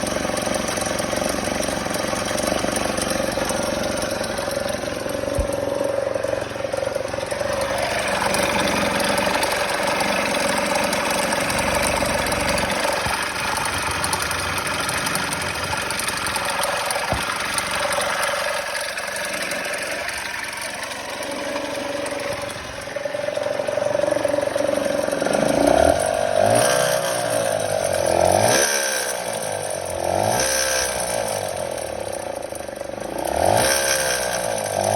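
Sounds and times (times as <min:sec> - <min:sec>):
scooter engine revving: 0:00.0 - 0:34.9.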